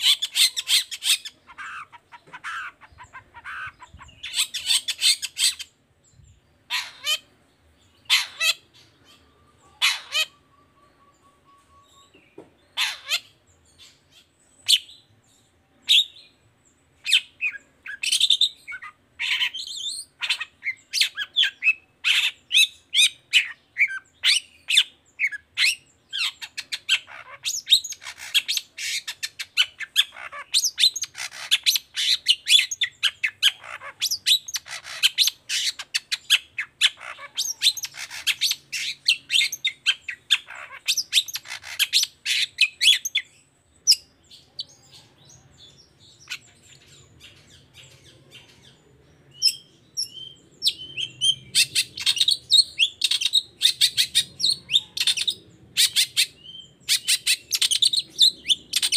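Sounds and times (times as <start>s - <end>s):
bird chirping and squawking: 0.0s - 16.3s, 17.0s - 58.9s.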